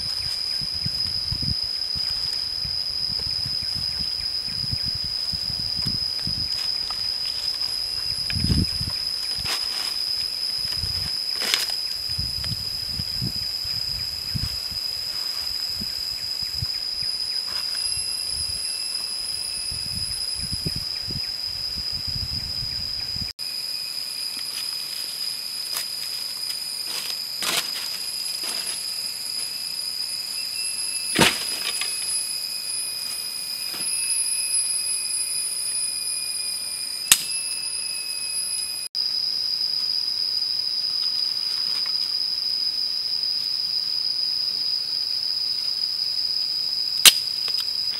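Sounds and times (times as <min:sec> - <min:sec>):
cicadas droning: 0:00.0 - 0:47.9.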